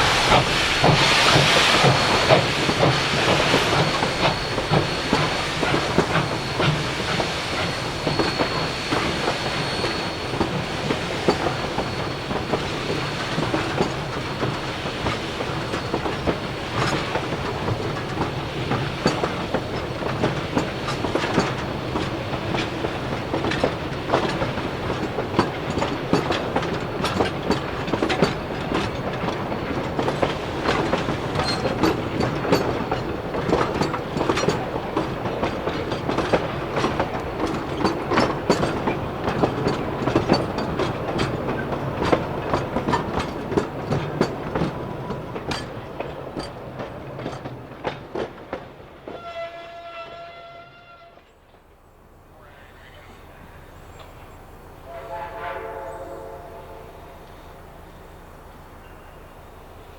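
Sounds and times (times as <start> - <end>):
train wheels clicking and clanking: 0.0 - 51.8.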